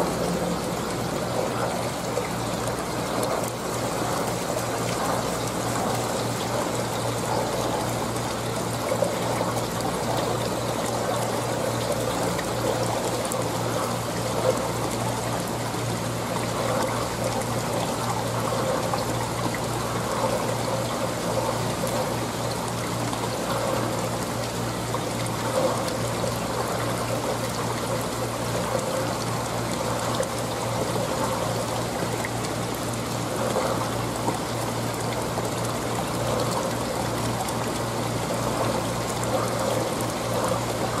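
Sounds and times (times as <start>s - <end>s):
aquarium water trickling: 0.0s - 41.0s.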